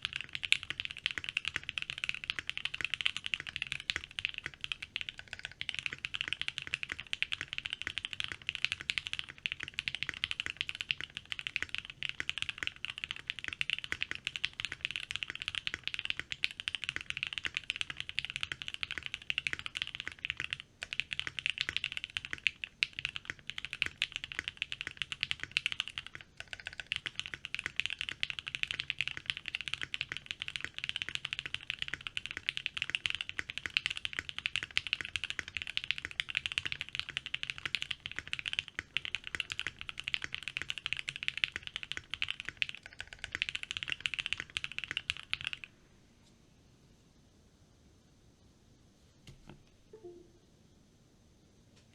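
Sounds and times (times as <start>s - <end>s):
typing on mechanical keyboard: 0.0s - 45.7s.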